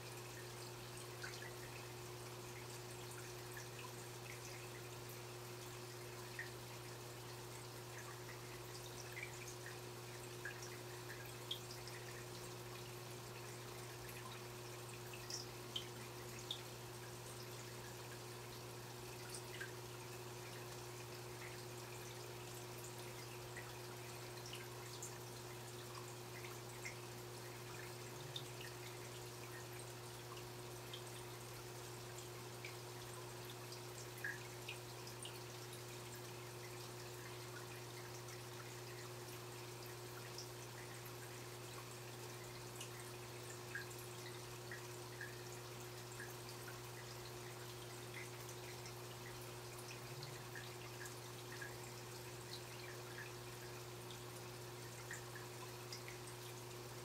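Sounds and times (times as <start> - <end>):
small water drips: 0.0 - 57.0
water trickling: 0.0 - 57.0.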